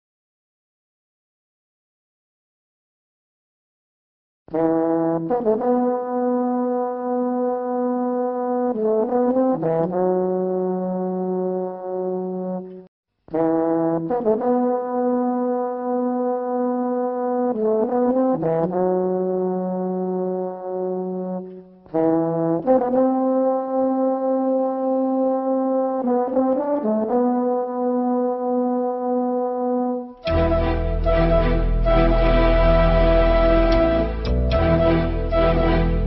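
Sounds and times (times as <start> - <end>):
solo brass melody: 4.5 - 36.0.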